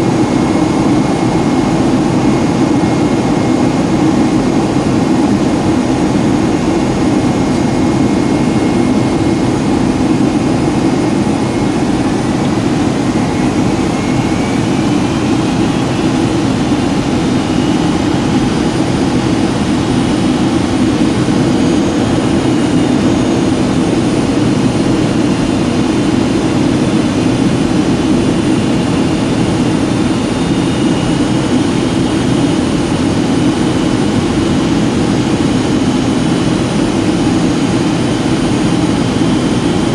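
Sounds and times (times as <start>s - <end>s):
faint high whine: 0.0s - 39.9s
jet engines and airflow roar: 0.0s - 39.9s.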